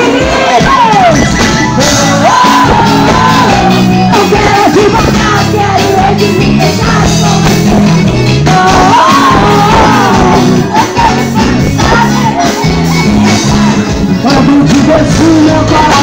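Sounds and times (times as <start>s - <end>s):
crowd shouting: 0.0s - 14.1s
bass line: 0.0s - 16.0s
fans singing along: 0.0s - 16.0s
live band music: 0.0s - 16.0s.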